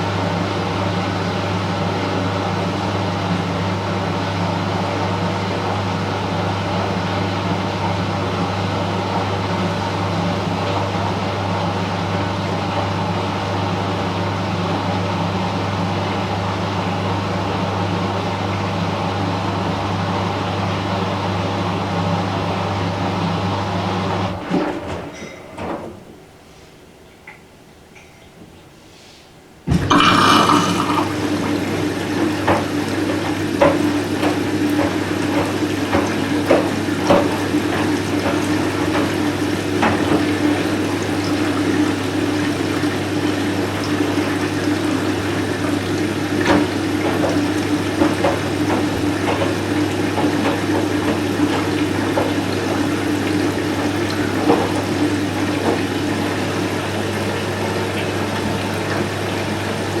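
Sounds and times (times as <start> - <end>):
water rushing into washing machine: 0.0 - 26.4, 29.6 - 60.0.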